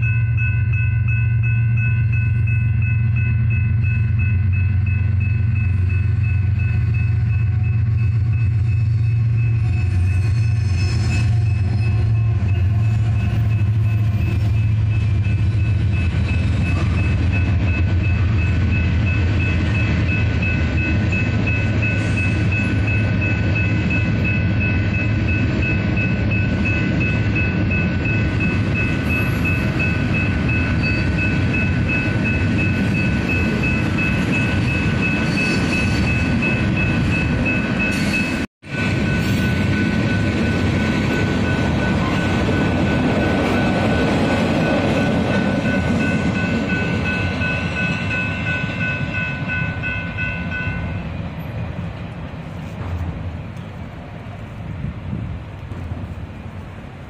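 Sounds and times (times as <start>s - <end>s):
electronic crossing bell ringing: 0.0s - 51.1s
train rumbling on rails: 0.0s - 57.0s.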